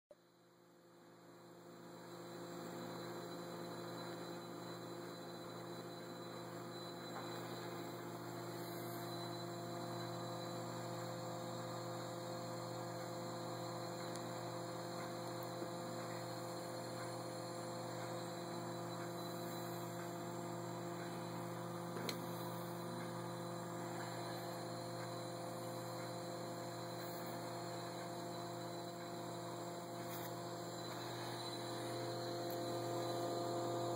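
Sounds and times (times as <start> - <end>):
pulse motor humming: 1.6 - 33.9.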